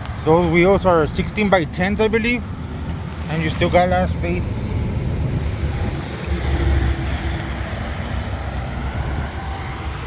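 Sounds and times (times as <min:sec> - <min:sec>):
vehicle engine low rumble: 0:00.0 - 0:10.0.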